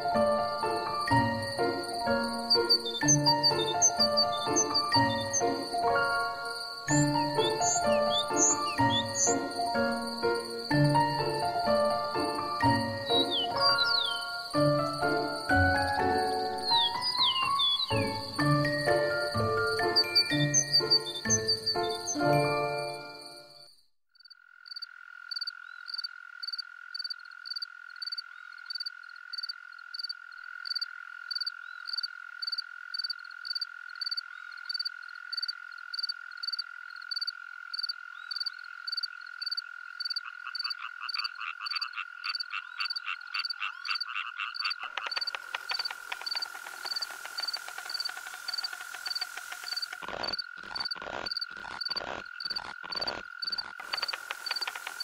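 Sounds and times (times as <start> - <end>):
high drone of insects: 0.0 - 55.0
frog chirping: 0.8 - 55.0.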